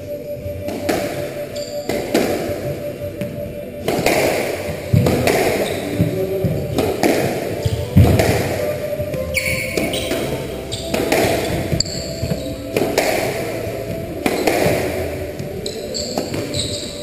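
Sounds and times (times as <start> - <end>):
shoes squeaking on wooden floor: 0.1 - 17.0
squash ball hitting rackets and walls: 0.6 - 17.0.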